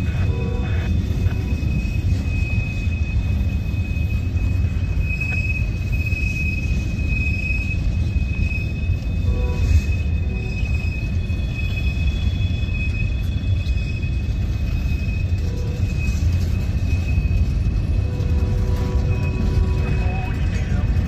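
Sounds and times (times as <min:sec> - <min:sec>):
high-pitched wheel squeal: 0:00.0 - 0:21.0
steel wheels rumbling on rails: 0:00.0 - 0:21.0.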